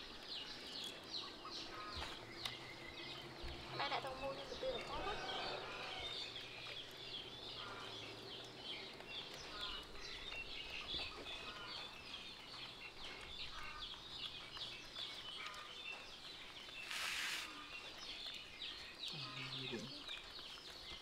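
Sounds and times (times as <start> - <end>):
birds chirping: 0.0 - 21.0
low clucking bird calls: 0.0 - 21.0.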